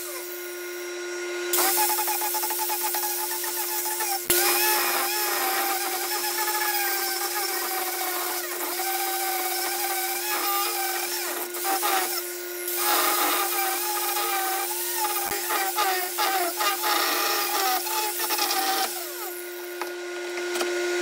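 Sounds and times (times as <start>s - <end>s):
angle grinder motor whine: 0.0s - 21.0s
carving disc scraping wood: 1.6s - 19.8s.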